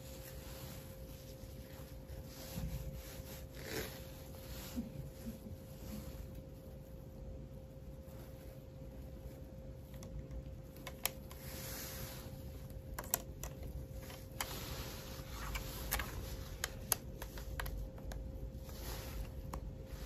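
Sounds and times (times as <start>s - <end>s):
soft rustling: 0.0s - 20.0s.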